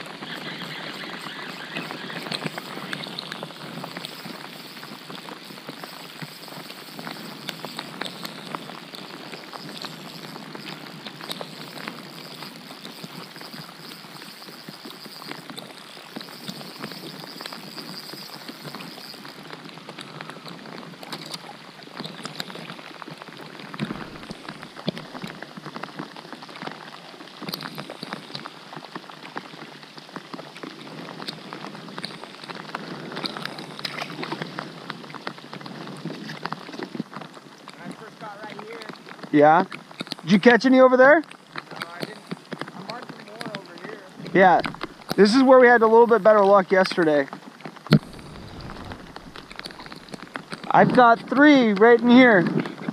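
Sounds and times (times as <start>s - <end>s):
rain on lake water: 0.0s - 52.9s.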